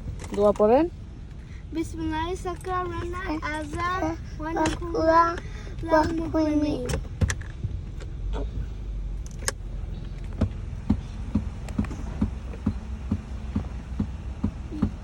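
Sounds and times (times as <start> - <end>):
car engine rumble in cabin: 0.0 - 15.0.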